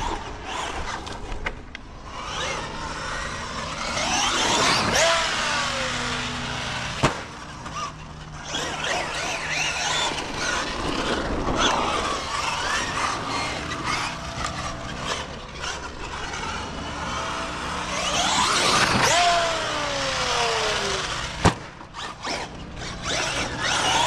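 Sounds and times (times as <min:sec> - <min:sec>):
rc truck motor whining: 0:00.0 - 0:24.0.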